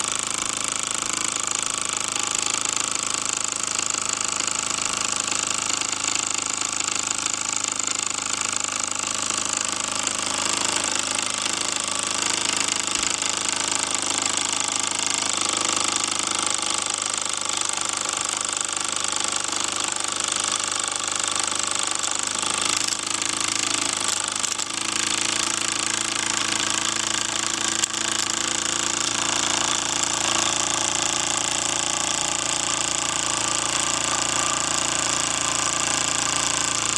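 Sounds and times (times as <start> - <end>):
toy steam engine chuffing: 0.0 - 36.9.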